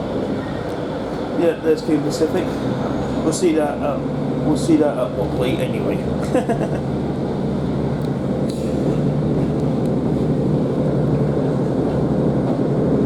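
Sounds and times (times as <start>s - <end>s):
train diesel engine drone: 0.0s - 13.0s
train running noise: 0.0s - 13.0s.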